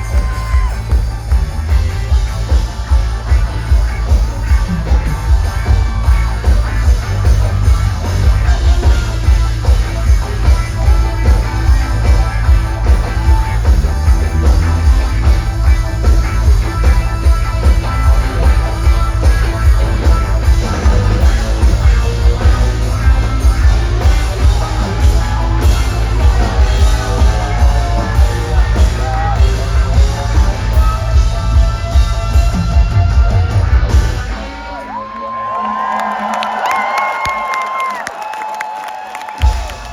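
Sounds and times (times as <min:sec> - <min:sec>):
booming bass: 0:00.0 - 0:34.4
live rock band: 0:00.0 - 0:39.9.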